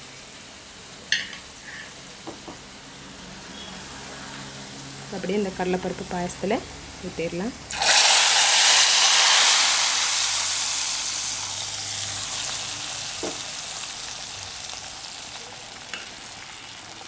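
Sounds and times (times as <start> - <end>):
hot ghee sizzling: 0.0 - 17.0.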